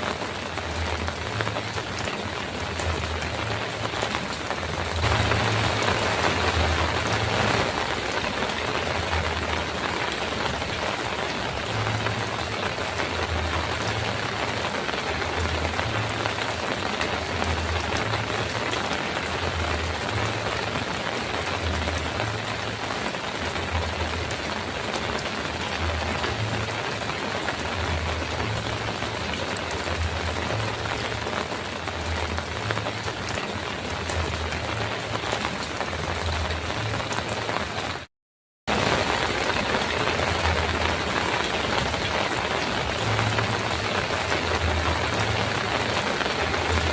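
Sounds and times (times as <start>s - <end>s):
heavy rain on a metal roof: 0.0s - 38.1s, 38.7s - 46.9s.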